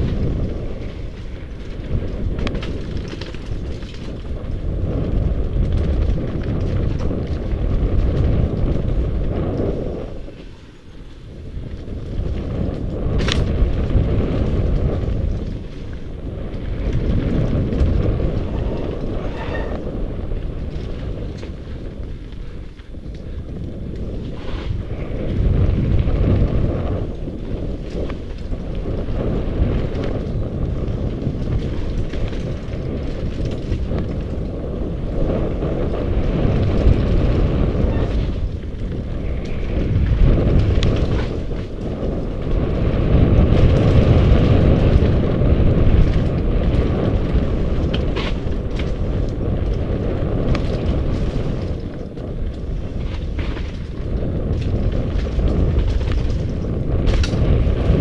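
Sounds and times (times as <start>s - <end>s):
bike knocks and rattles: 0.0s - 10.6s, 11.2s - 58.0s
tyres rumbling on dirt: 0.0s - 58.0s
wind buffeting microphone: 0.0s - 58.0s.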